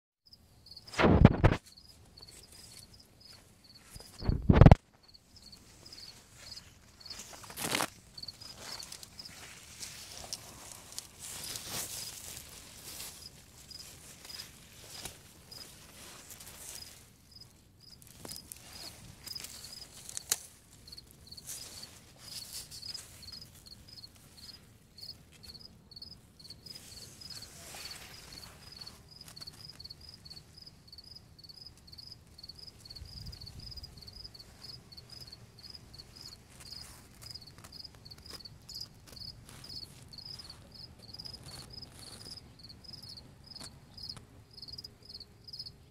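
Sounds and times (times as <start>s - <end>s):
cricket chirping: 0.3s - 9.5s, 12.9s - 14.4s, 16.7s - 20.3s, 20.9s - 45.8s.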